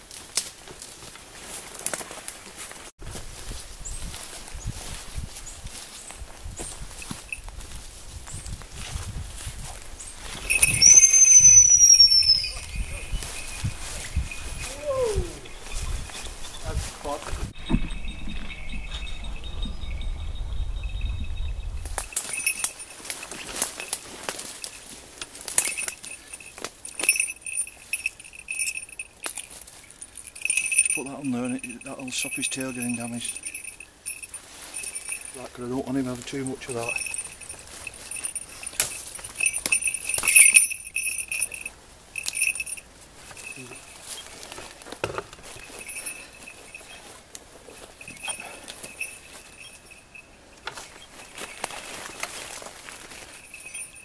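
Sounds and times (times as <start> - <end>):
dry leaves crackling and rustling: 0.0 - 10.7, 12.1 - 17.4, 21.9 - 54.0
footsteps crunching through undergrowth: 0.0 - 19.3, 21.9 - 54.0
small bells jingling: 3.5 - 54.0.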